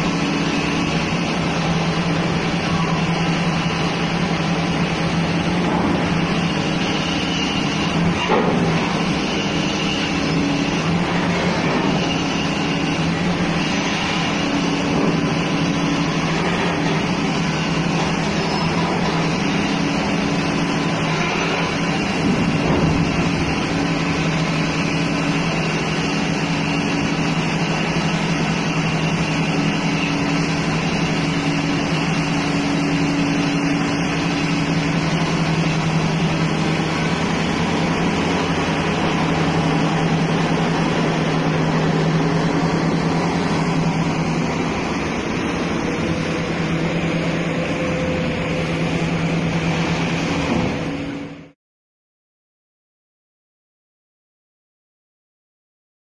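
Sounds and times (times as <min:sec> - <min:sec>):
excavator diesel engine droning: 0:00.0 - 0:51.6.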